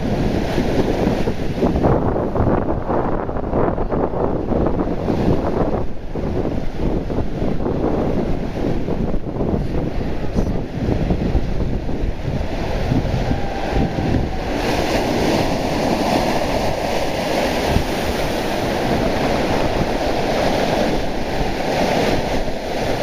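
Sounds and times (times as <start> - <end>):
sea surf breaking over rocks: 0.0 - 23.0
wind buffeting microphone: 0.0 - 23.0.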